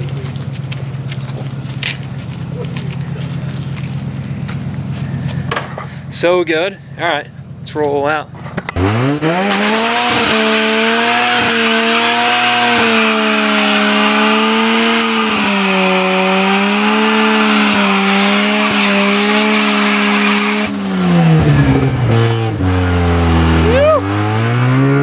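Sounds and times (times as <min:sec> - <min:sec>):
car engine at high revs: 0:00.0 - 0:06.1, 0:07.5 - 0:25.0.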